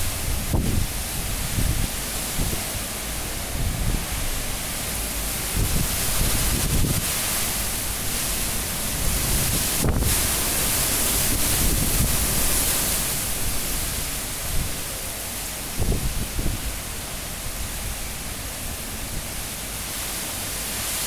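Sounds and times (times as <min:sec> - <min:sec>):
high winds gusting: 0:00.0 - 0:21.0.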